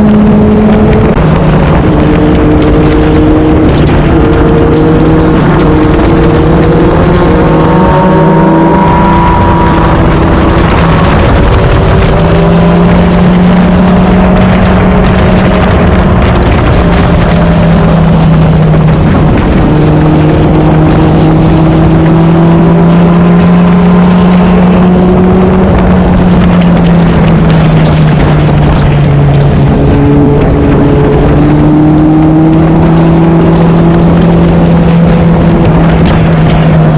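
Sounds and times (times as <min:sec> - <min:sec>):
motorcycle engine cruising: 0:00.0 - 0:36.9
rush of wind noise: 0:00.0 - 0:36.9.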